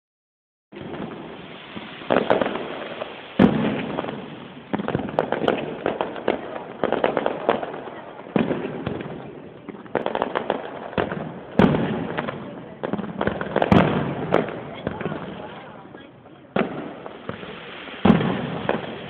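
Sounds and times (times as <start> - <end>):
firework crackles: 0.7 - 19.0
firework shells booming: 0.7 - 19.0.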